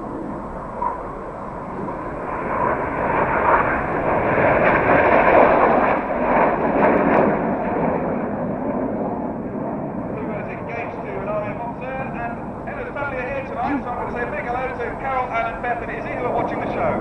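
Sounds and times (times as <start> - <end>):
jets passing low: 0.0 - 17.0.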